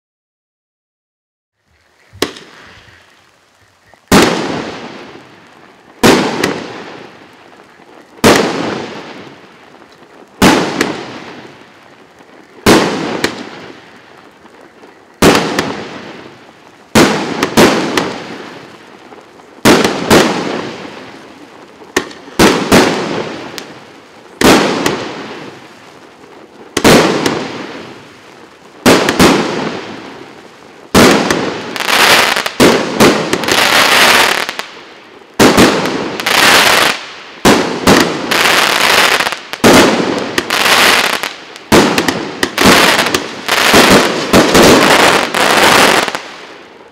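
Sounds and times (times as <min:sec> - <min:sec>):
fireworks crackle: 0:01.5 - 0:46.9
fireworks bangs: 0:02.0 - 0:46.9.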